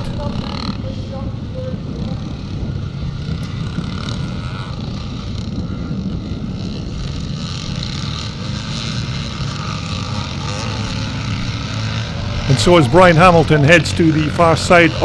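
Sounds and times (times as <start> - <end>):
motocross bikes racing: 0.0 - 15.0.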